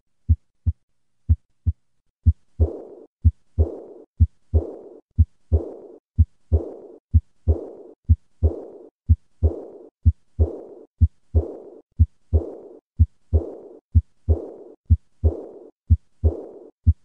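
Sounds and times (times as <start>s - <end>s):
heartbeat: 0.3s - 17.0s.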